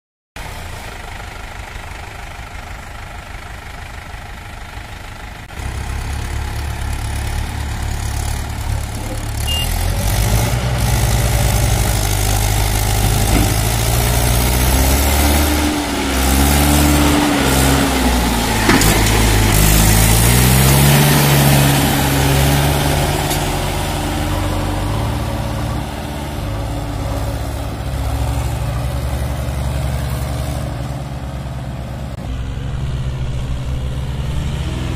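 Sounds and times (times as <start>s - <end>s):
backhoe diesel engine running: 0.4s - 34.9s
tractor diesel engine straining: 0.4s - 34.9s.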